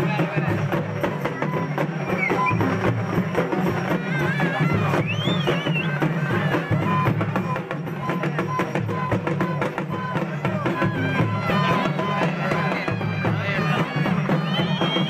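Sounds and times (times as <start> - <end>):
fast festival drumming: 0.0 - 15.0.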